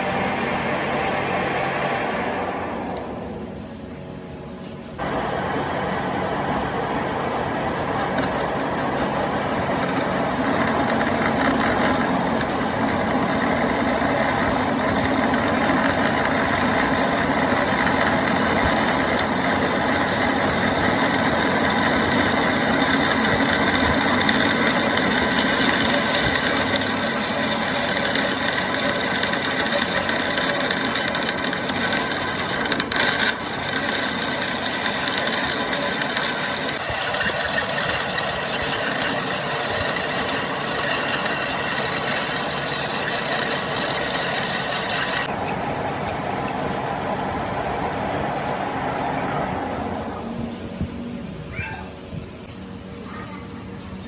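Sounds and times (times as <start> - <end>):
workshop machine droning: 0.0 - 54.0.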